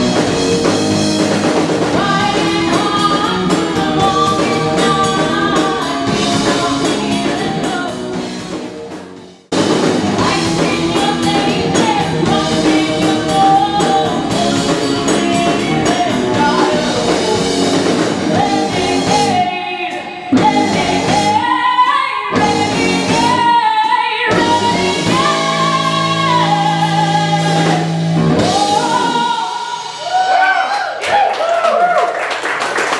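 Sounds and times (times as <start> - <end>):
rock band playing: 0.0 - 30.7
woman singing: 1.9 - 8.3, 10.1 - 30.5.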